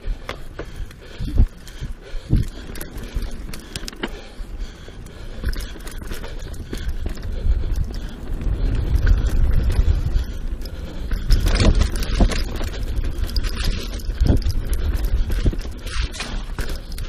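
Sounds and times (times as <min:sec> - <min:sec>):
bike tyres rumbling over dirt: 0:00.0 - 0:17.0
bike knocks and rattles: 0:00.1 - 0:17.0.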